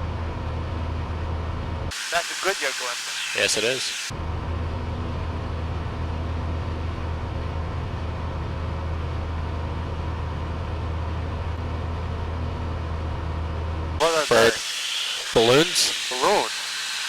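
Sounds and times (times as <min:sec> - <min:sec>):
aircraft engine droning: 0:00.0 - 0:13.3, 0:14.0 - 0:17.0.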